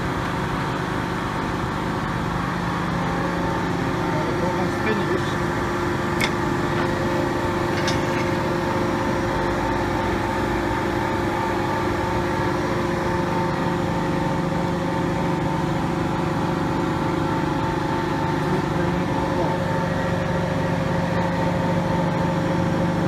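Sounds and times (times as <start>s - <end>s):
punching machine humming: 0.0s - 23.0s.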